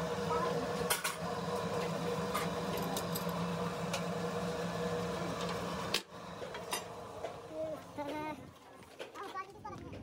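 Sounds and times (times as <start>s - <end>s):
electric hum of machinery: 0.0s - 10.0s.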